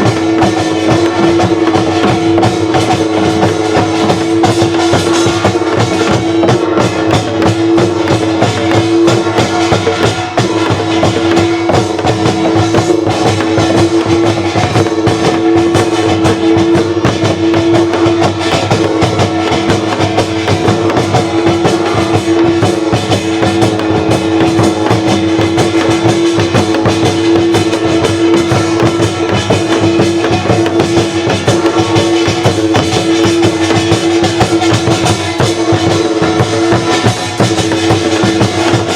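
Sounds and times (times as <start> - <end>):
drums and percussion in fast rhythm: 0.0 - 38.9.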